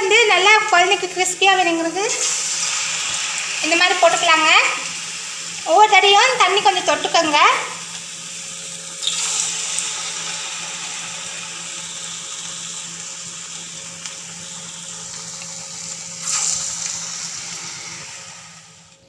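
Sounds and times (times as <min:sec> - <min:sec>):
patties sizzling in hot oil: 0:00.0 - 0:19.0.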